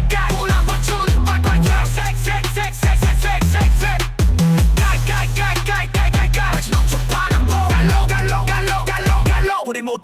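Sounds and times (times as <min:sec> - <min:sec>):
instrumental hip hop track: 0:00.0 - 0:10.0.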